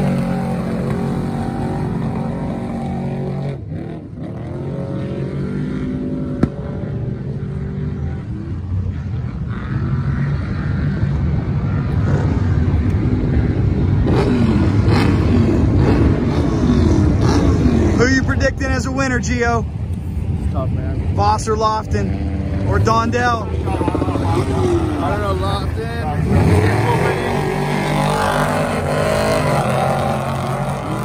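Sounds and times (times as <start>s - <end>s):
truck engines revving: 0.0s - 31.0s.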